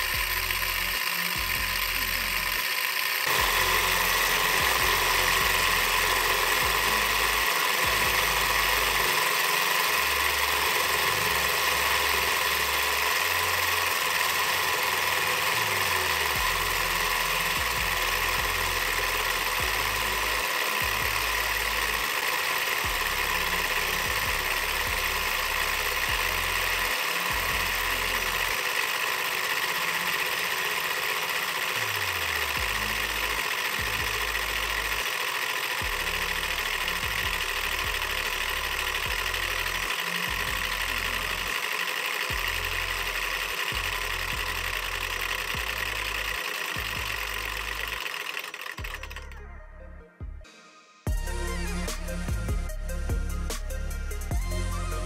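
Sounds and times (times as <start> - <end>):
model engine mechanical whirr: 0.0 - 49.5.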